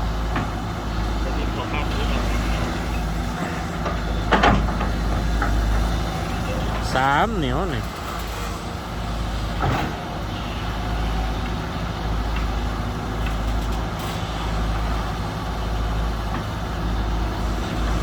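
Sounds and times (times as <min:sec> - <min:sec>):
heavy diesel engines running: 0:00.0 - 0:18.0.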